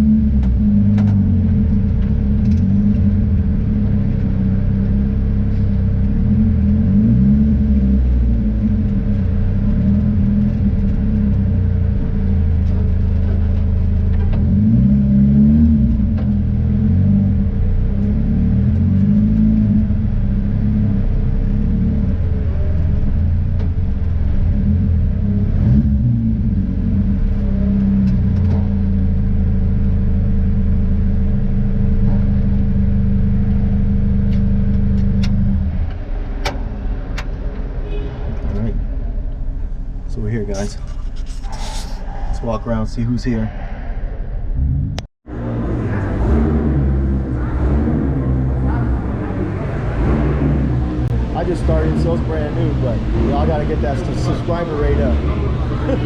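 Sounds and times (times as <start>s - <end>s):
car engine revving: 0.0s - 43.5s, 44.5s - 56.0s
road rumble: 0.0s - 56.0s.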